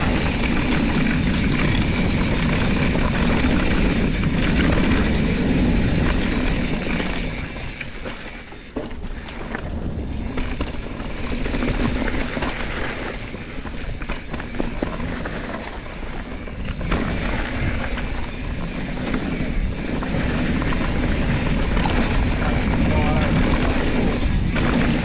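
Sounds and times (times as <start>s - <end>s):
bike clicks and rattles: 0.0s - 25.0s
bike tyres rumbling on dirt: 0.0s - 25.0s
wind on the microphone: 0.0s - 25.0s.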